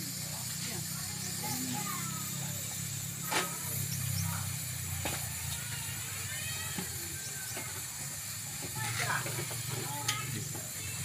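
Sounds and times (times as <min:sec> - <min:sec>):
clams hissing and bubbling: 0:00.0 - 0:11.0.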